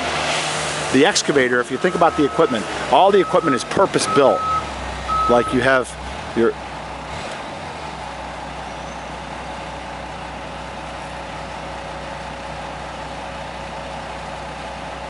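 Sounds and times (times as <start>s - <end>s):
distant diesel engine drone: 0.0s - 15.0s.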